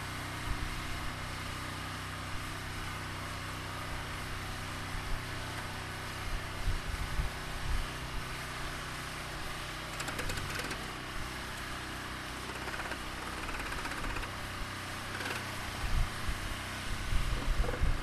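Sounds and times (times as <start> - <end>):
welder generator engine running: 0.0 - 18.0.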